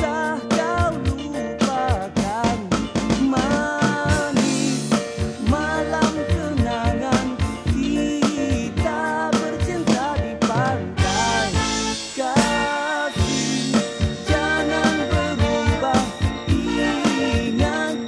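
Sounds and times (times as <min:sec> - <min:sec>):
drum kit beat: 0:00.0 - 0:18.0
person singing: 0:00.0 - 0:18.0
pop song played by band: 0:00.0 - 0:18.0.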